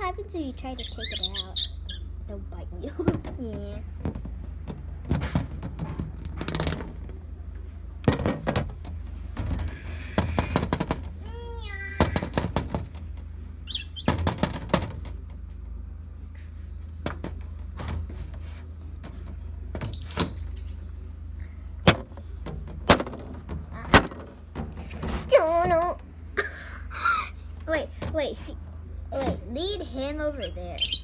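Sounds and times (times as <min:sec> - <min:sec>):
birds chirping: 0:00.0 - 0:22.9, 0:23.6 - 0:31.0
steady low hum: 0:00.0 - 0:30.8.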